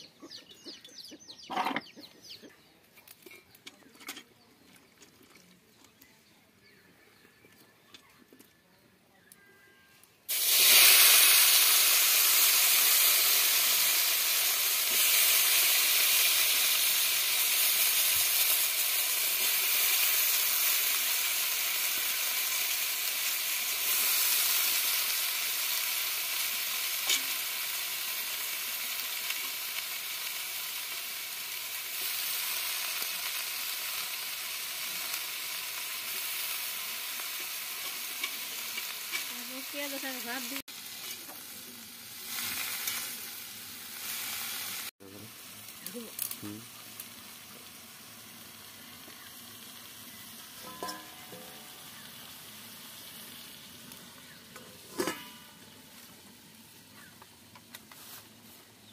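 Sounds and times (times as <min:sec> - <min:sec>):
vegetables sizzling in hot oil: 0:10.3 - 0:58.9.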